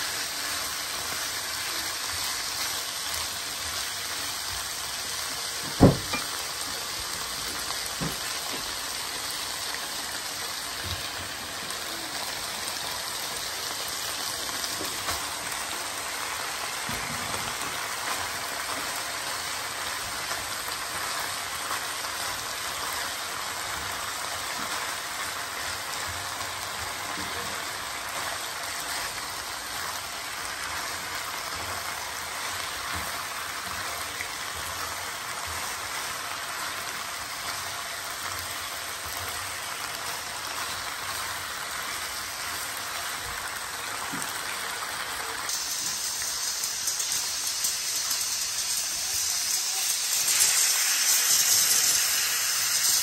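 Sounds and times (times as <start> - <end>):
food sizzling in a frying pan: 0.0 - 53.0.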